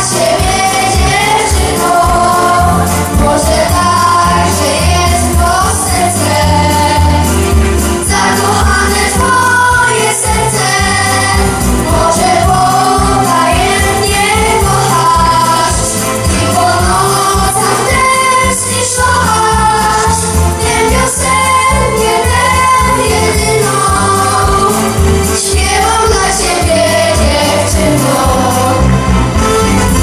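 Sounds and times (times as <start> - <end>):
boys singing into microphones: 0.0 - 7.4, 8.0 - 29.0
amplified backing music: 0.0 - 30.0.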